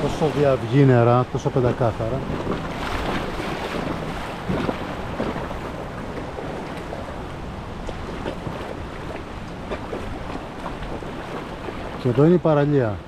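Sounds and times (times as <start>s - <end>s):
wind on microphone: 0.0s - 12.3s
water lapping against raft: 0.0s - 13.0s
small splashes: 1.7s - 12.2s.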